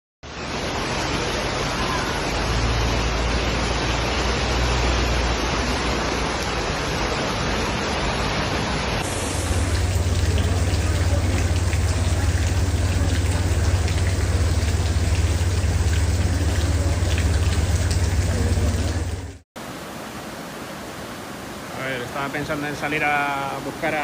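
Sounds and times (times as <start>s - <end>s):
rushing flood water: 0.2s - 24.0s
torrential rain: 0.2s - 24.0s.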